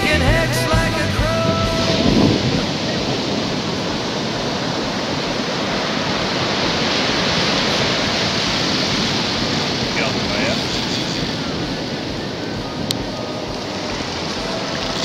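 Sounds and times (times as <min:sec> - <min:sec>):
ocean surf breaking on beach: 0:01.2 - 0:15.0.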